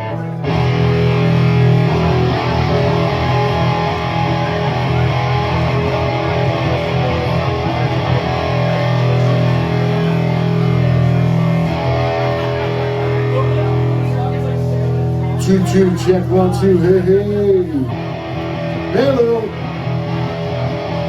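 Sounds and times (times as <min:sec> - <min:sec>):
held low notes: 0:00.0 - 0:21.0
loud live guitar music: 0:00.0 - 0:21.0.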